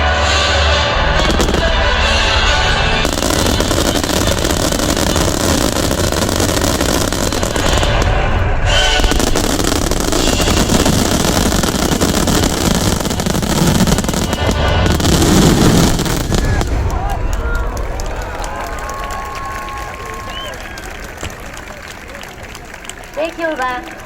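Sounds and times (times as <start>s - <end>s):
fireworks barrage: 0.0s - 24.0s.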